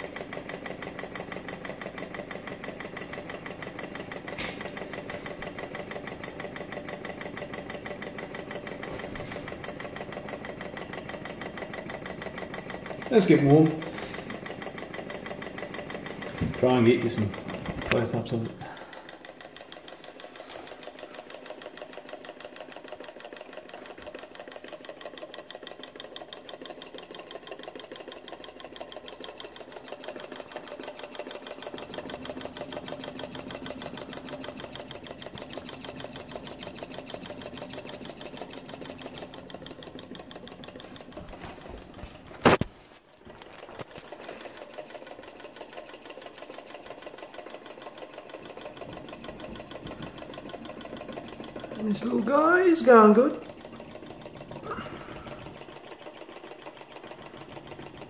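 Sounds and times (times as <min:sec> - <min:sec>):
small engine ticking clatter: 0:00.0 - 0:58.0.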